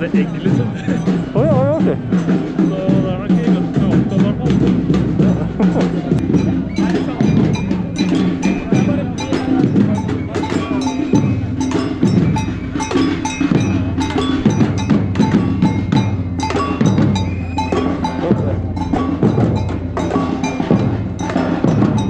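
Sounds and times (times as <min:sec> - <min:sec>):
drums and metal percussion banging: 0:00.0 - 0:22.0.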